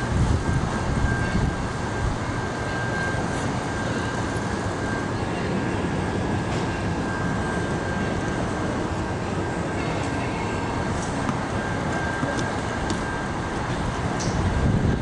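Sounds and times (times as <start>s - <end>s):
thin high tone: 0.0s - 14.3s
train wheels rumbling on rails: 0.0s - 15.0s.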